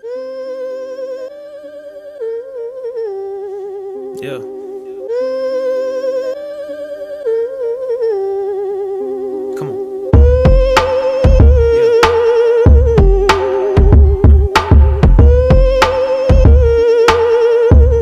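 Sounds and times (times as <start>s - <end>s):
slow wordless melody with vibrato: 0.0s - 18.0s.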